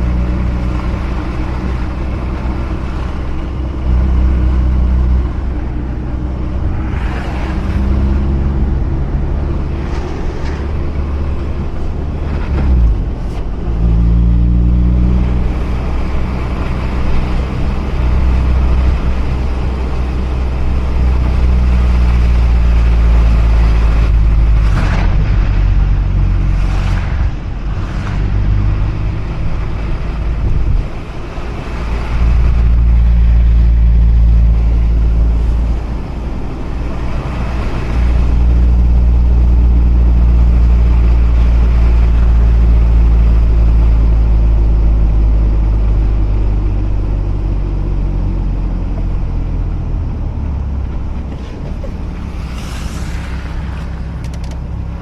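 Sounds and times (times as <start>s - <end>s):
car engine droning while driving: 0.0s - 55.0s.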